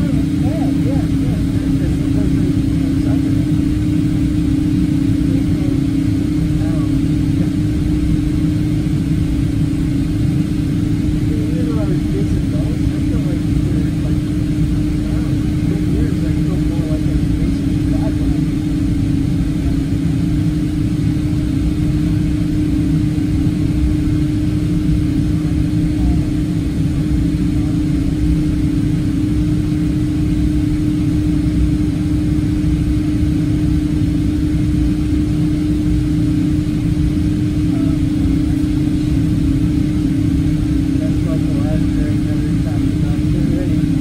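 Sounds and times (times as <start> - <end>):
airplane cabin rumble: 0.0 - 44.0
jet engines droning: 0.0 - 44.0.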